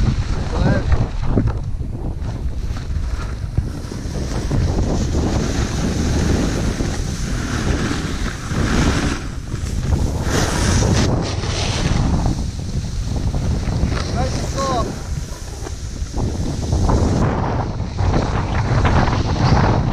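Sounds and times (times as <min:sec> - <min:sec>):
snowboard edge scraping snow: 0:00.0 - 0:01.4, 0:02.0 - 0:19.9
wind buffeting microphone: 0:00.0 - 0:19.9.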